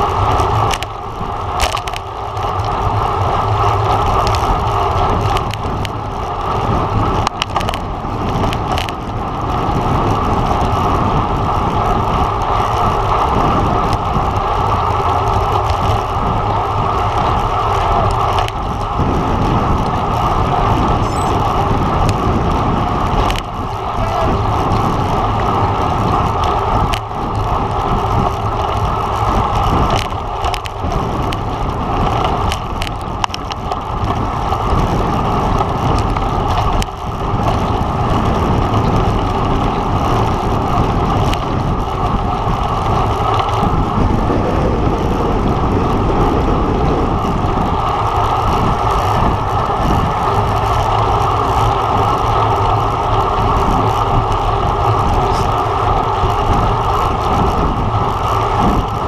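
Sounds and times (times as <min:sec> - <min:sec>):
wind rush over microphone: 0:00.0 - 0:59.0.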